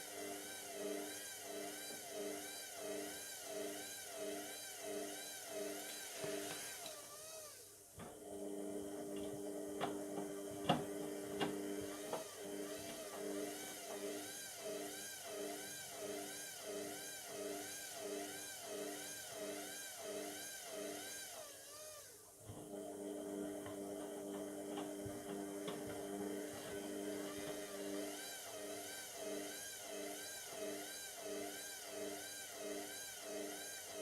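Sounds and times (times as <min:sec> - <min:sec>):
washing machine motor whining: 0:00.0 - 0:34.0.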